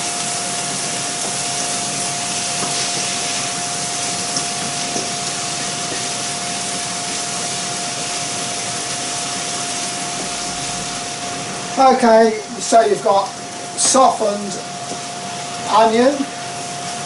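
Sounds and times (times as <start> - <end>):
steady whine: 0.0 - 16.8
onions frying in oil: 0.0 - 17.0.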